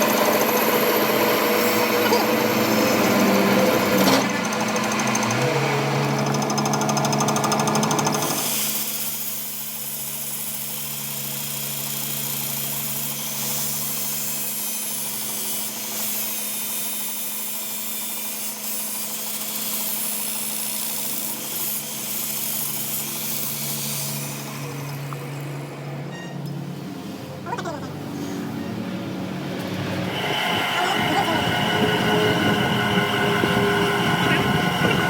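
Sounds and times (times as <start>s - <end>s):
machine humming and hissing: 0.0s - 26.1s, 28.3s - 35.0s.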